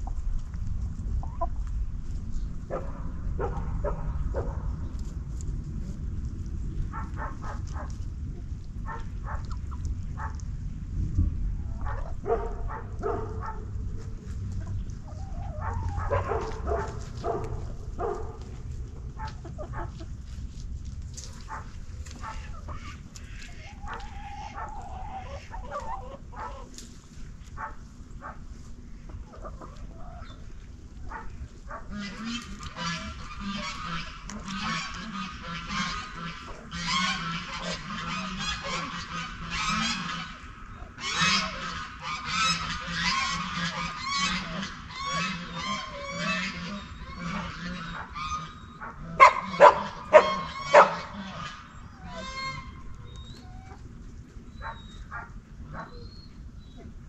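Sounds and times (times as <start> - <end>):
farmyard fowl calling: 0.0 - 1.8, 11.6 - 57.0.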